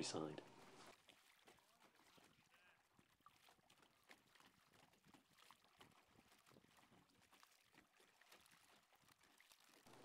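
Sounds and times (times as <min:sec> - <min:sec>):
kayak paddles splashing: 0:00.0 - 0:10.0.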